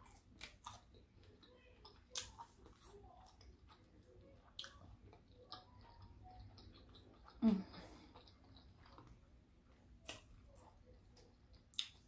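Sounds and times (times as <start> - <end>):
faint close-up chewing: 0.0 - 12.0.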